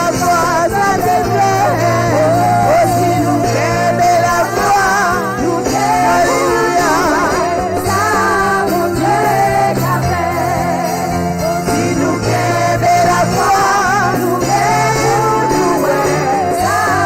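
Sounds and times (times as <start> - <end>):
sustained bass notes: 0.0 - 17.0
voices singing together: 0.0 - 17.0.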